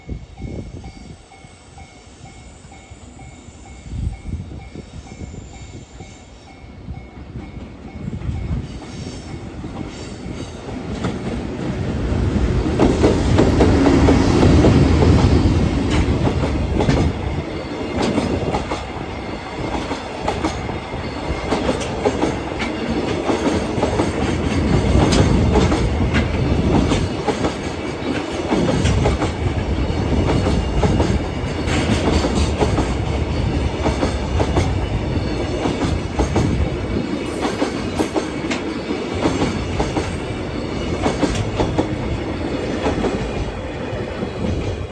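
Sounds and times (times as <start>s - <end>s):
freight train rolling past: 0.0s - 44.9s.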